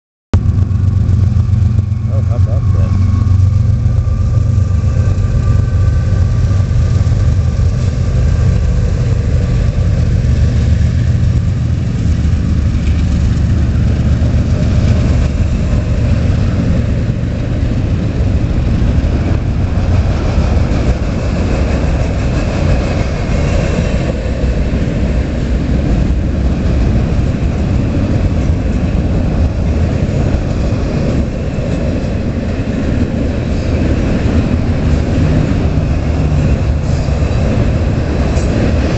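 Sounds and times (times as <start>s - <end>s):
freight train rumbling on rails: 0.3s - 38.9s.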